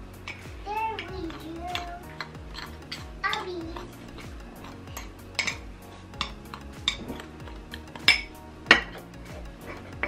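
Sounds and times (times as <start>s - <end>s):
spoon clinking against a mug: 0.2s - 9.1s.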